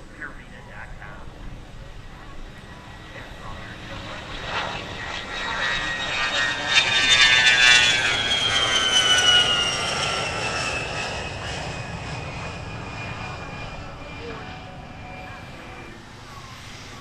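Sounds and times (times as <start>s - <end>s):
jet aircraft passing by: 0.0s - 17.0s.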